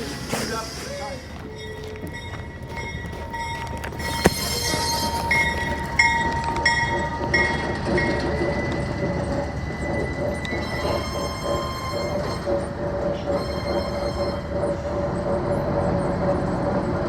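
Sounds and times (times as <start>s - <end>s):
train rumbling: 0.0s - 17.0s
train wheel squeal: 0.0s - 17.0s.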